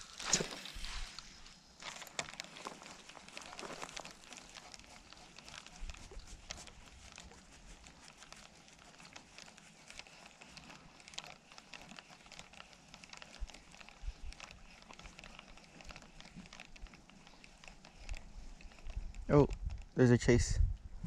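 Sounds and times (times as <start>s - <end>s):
fishing reel ticks and rustles: 0.0s - 20.9s.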